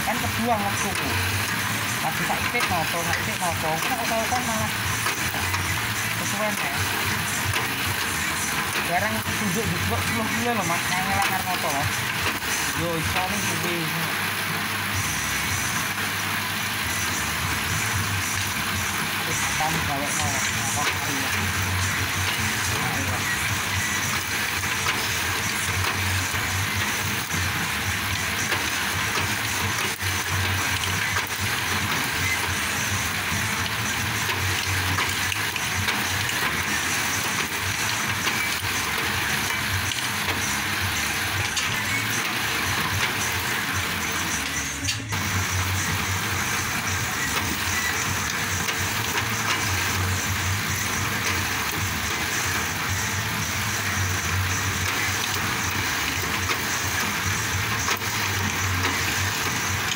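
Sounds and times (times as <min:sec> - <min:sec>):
planing machine drone: 0:00.0 - 0:59.9.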